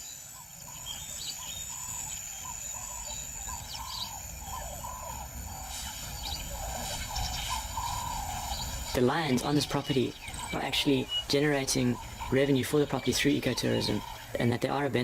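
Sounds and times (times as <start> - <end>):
faint high bird chirps: 0.0 - 14.4
steady low rumble: 0.4 - 15.0.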